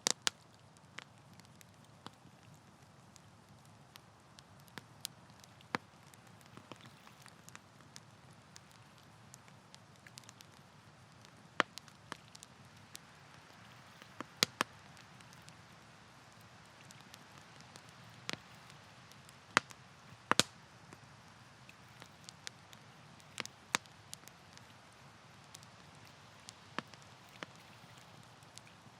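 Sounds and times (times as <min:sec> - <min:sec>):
campfire crackling: 0:00.0 - 0:28.9
soft steady hiss: 0:00.0 - 0:28.9.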